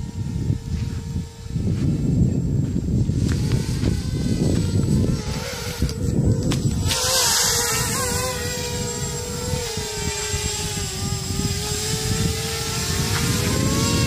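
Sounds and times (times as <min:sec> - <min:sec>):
drone propellers buzzing whine: 0:00.0 - 0:14.0.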